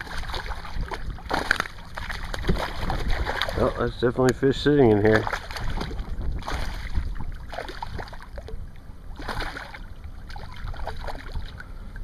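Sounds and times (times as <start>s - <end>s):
fish thrashing and splashing in water: 0.0s - 4.0s, 5.0s - 11.7s
low steady rumble: 0.0s - 12.0s.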